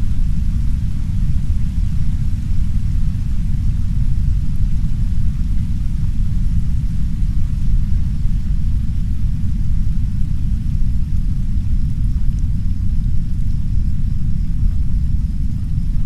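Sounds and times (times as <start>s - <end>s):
brown noise rumble: 0.0s - 16.0s
soft rain hiss: 0.0s - 16.0s.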